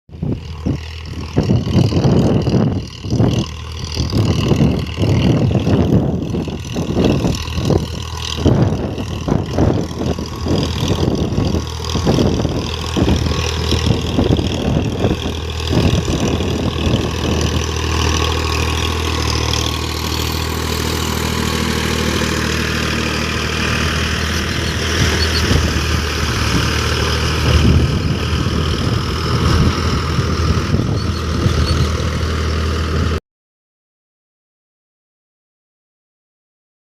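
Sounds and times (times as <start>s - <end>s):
engine running unevenly: 0.1s - 33.2s.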